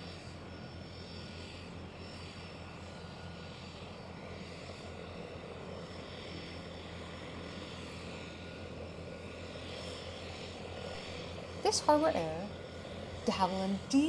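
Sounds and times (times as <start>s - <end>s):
propeller engine running: 0.0s - 14.0s.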